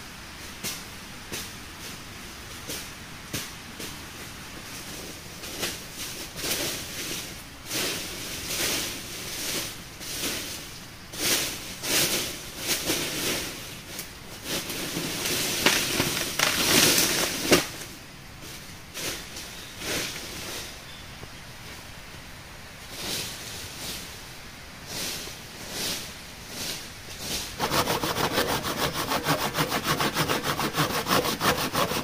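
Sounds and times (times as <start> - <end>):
dry leaves crunching and rustling: 3.7 - 22.0, 22.8 - 32.0.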